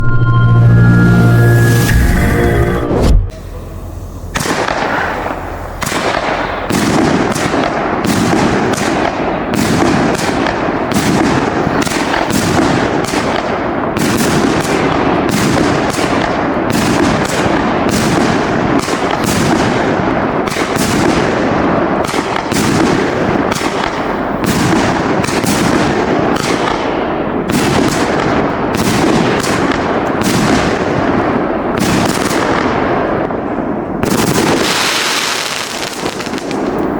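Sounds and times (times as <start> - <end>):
steady noisy haze: 0.0 - 30.1
firework bangs: 3.0 - 36.9.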